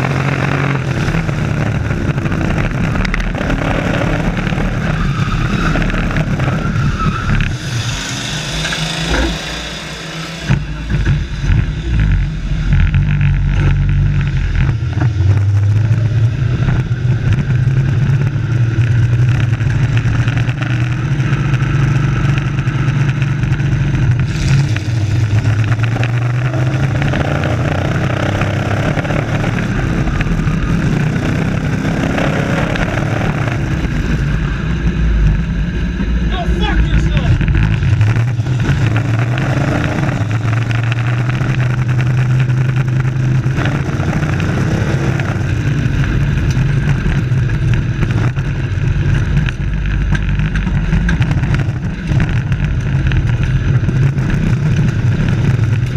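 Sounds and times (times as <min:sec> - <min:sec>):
truck engines running: 0:00.0 - 0:55.9.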